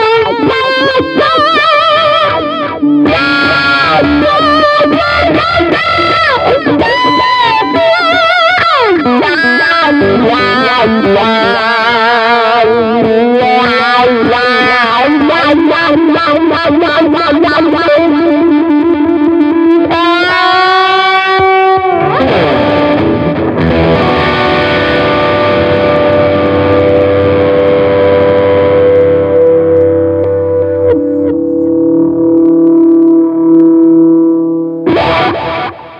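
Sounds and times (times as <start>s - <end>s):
distorted electric guitar: 0.0s - 35.9s.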